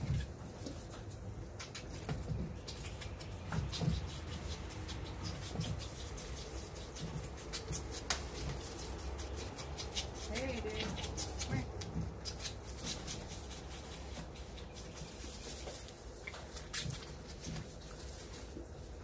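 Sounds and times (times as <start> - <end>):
fawns suckling and smacking: 0.0 - 19.0.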